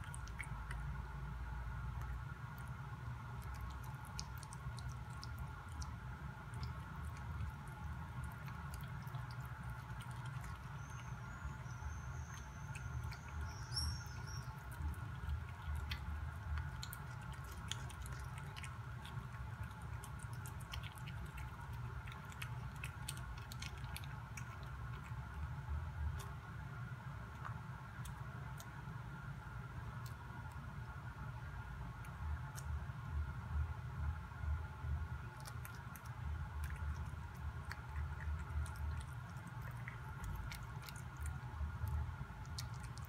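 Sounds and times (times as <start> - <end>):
cat chewing food: 0.0 - 43.0
steady low hum: 0.0 - 43.0.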